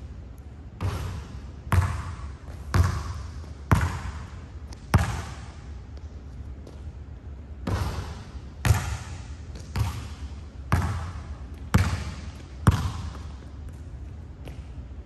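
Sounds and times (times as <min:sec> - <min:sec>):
basketball bouncing on hardwood floor: 0:00.8 - 0:06.8, 0:07.6 - 0:14.7.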